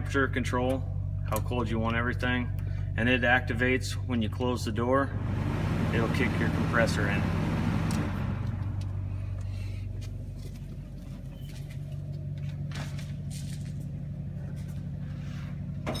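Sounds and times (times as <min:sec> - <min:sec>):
vending machine compressor hum: 0:00.0 - 0:16.0.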